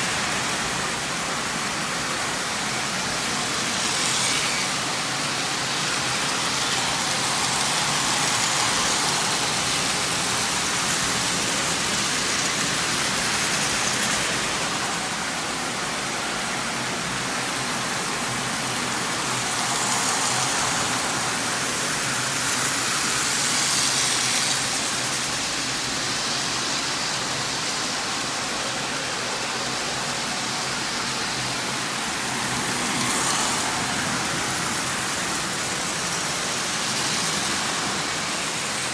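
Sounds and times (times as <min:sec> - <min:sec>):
toy trains whirring on metal track: 0:00.0 - 0:38.9.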